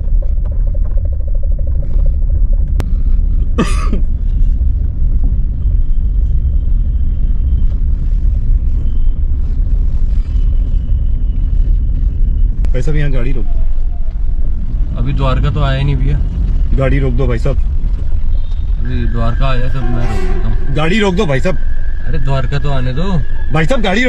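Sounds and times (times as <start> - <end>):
car cabin road rumble: 0.0 - 24.0.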